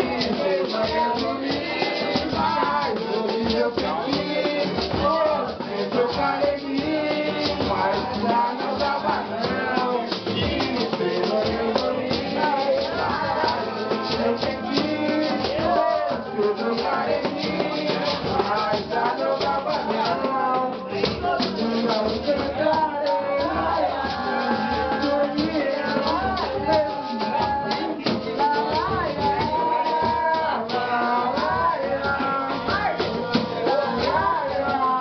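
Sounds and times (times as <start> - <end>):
shaker rattling: 0.0 - 35.0
voices singing: 0.0 - 35.0.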